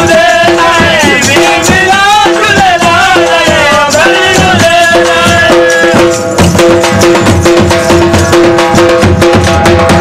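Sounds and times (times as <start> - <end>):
loud music with fast drums: 0.0 - 10.0.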